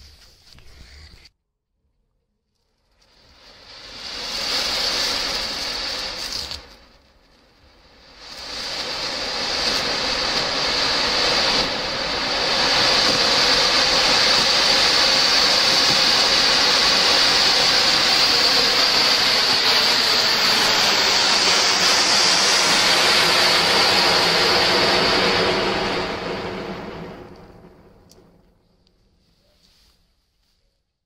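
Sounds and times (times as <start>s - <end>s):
firework fountain hissing: 2.9s - 28.1s.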